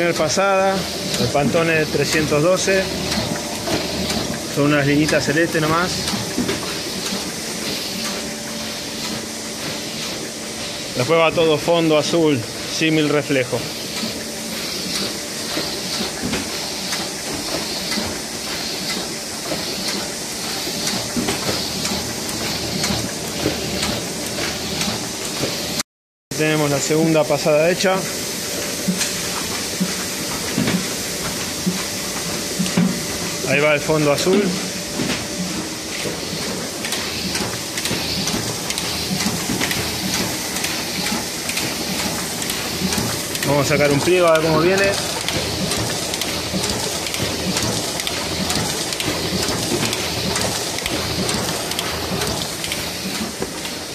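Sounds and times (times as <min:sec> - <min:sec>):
printing press running: 0:00.0 - 0:53.9.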